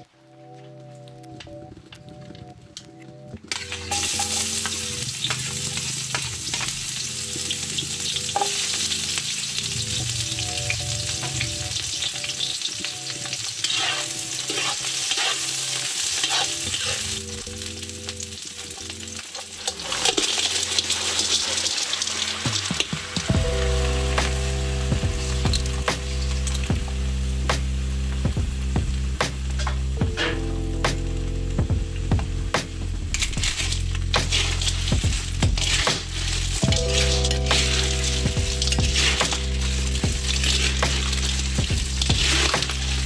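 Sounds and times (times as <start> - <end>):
food sizzling in hot oil: 3.5 - 30.5, 33.2 - 43.0.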